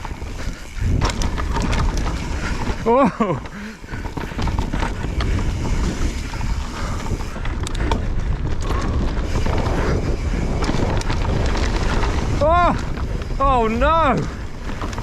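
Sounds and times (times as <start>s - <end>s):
bike knocks and rattles: 0.0s - 15.0s
tyre noise on dirt: 0.0s - 15.0s
wind buffeting microphone: 0.0s - 15.0s.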